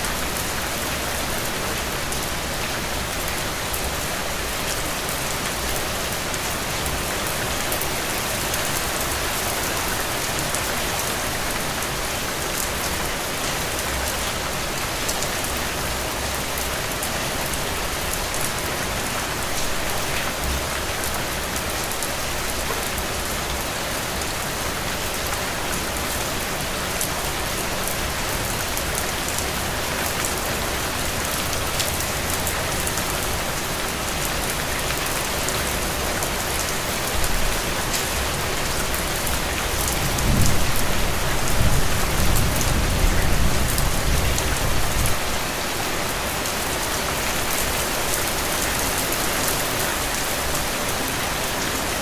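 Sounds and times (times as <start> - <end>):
heavy rain on soil and puddles: 0.0 - 52.0.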